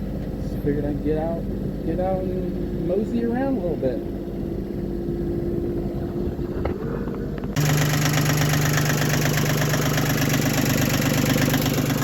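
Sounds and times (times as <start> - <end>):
marine diesel engine running: 0.0 - 12.0.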